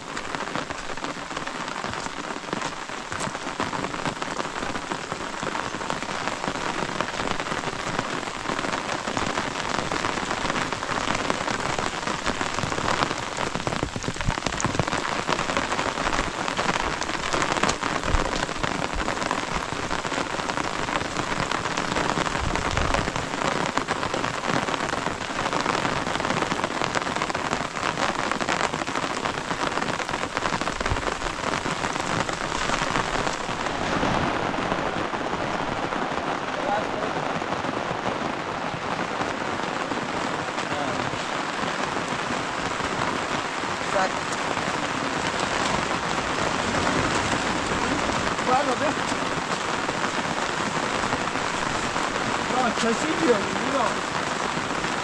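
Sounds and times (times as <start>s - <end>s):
rain drops hitting close: 0.0s - 55.0s.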